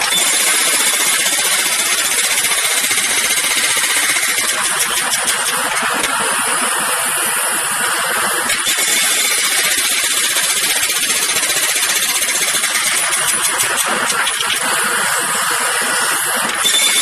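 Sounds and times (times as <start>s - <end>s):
jackhammer hammering: 0.0s - 17.0s.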